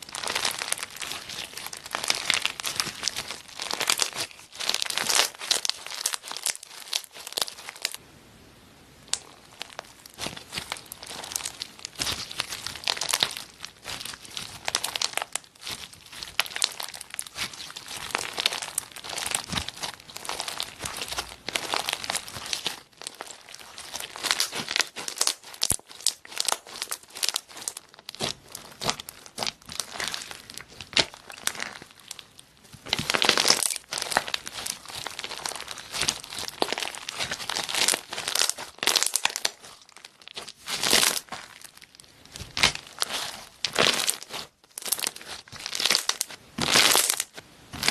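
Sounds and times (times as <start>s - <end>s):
slime crackling and popping: 0.0s - 8.0s, 9.1s - 47.9s.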